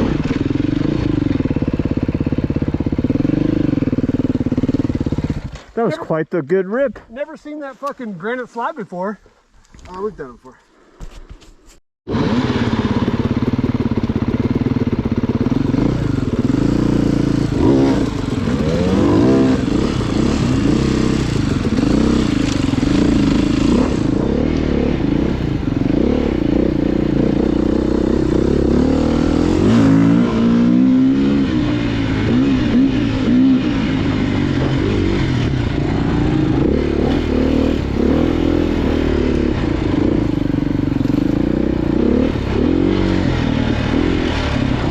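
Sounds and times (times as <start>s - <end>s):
motorcycle engine revving: 0.0s - 5.8s, 12.1s - 44.9s.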